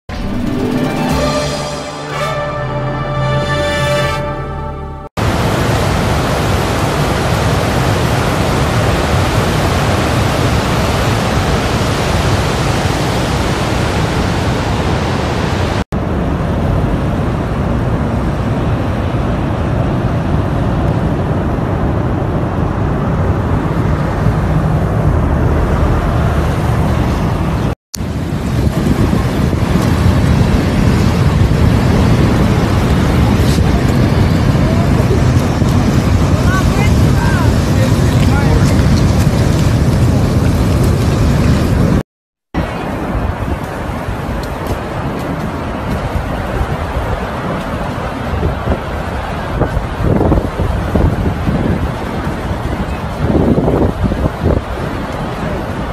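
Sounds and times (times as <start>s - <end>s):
waterfall roaring: 0.1s - 42.0s, 42.6s - 55.9s.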